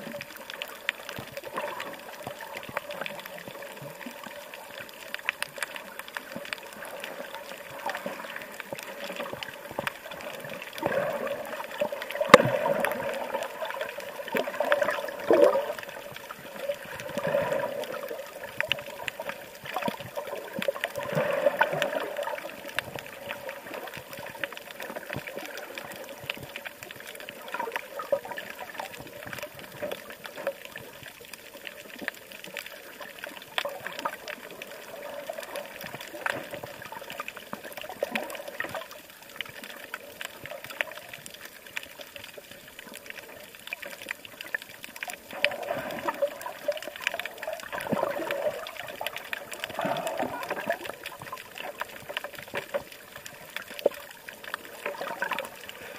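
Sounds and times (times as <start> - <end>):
running water rushing: 0.0 - 55.9.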